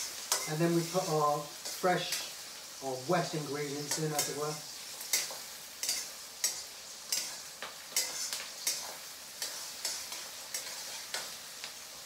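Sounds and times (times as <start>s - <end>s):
spatula scraping a pan: 0.0s - 2.4s, 3.6s - 11.8s
onions sizzling in hot oil: 0.0s - 12.0s.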